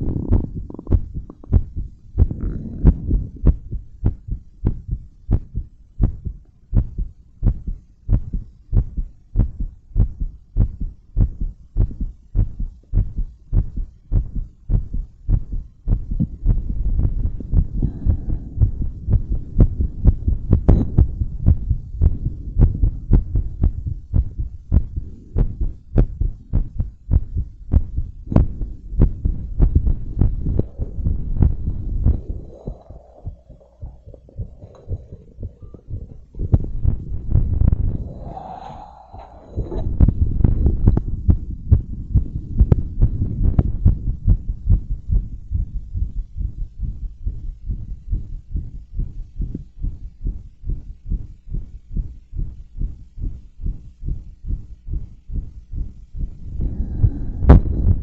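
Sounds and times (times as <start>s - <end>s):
heartbeat thumps: 0.0s - 58.0s
low rumble: 0.0s - 58.0s.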